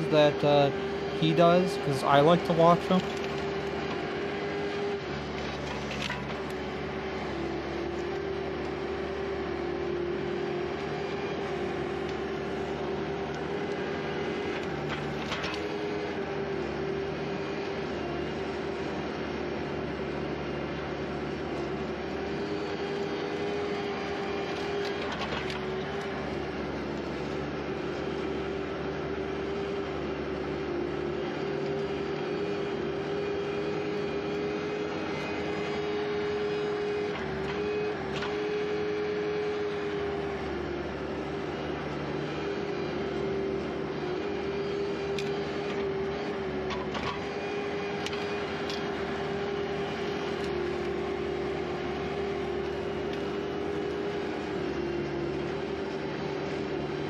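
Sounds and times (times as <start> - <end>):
skid steer engine at high throttle: 2.7 - 57.0.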